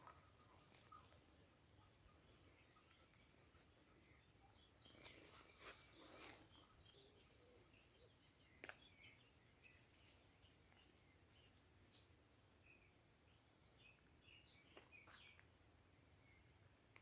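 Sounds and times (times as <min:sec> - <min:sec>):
faint bird chirps: 0:00.0 - 0:16.8.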